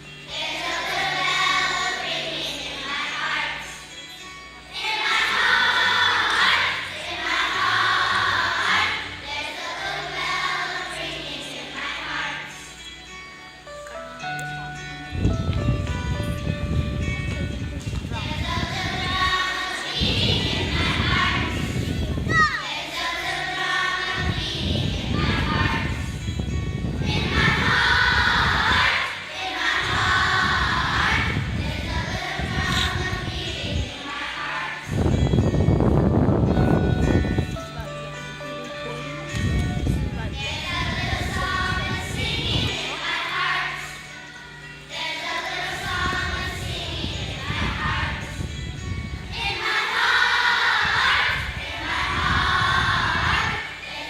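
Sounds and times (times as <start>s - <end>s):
children singing together: 0.0s - 12.9s, 17.9s - 35.6s, 40.2s - 54.0s
musical accompaniment: 0.0s - 54.0s.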